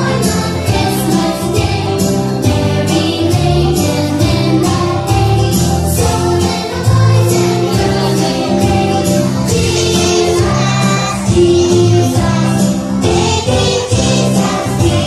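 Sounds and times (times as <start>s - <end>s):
backing music with steady beat: 0.0s - 15.0s
children singing: 0.0s - 15.0s.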